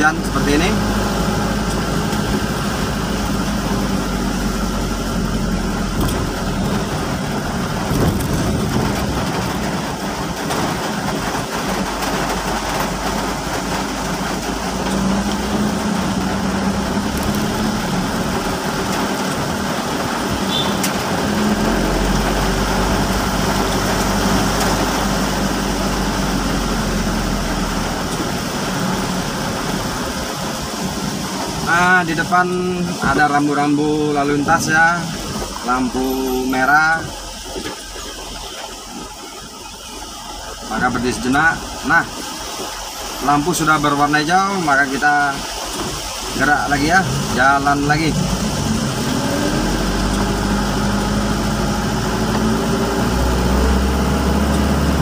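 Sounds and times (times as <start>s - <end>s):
car engine humming: 0.0s - 55.0s
falling rain: 0.0s - 55.0s
tyres hissing on wet road: 0.0s - 55.0s.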